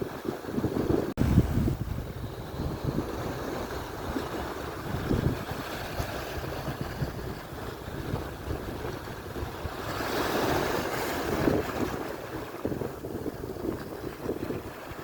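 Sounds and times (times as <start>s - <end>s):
surf washing onto shore: 0.0s - 15.0s
wind buffeting microphone: 0.0s - 15.0s.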